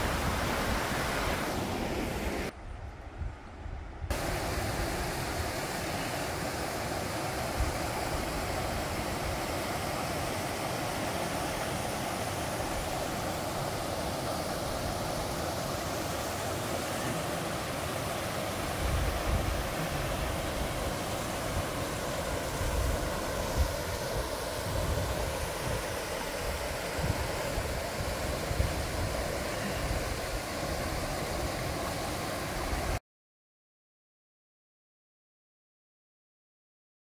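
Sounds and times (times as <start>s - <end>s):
waterfall rushing over rock: 0.0s - 2.5s, 4.1s - 33.0s.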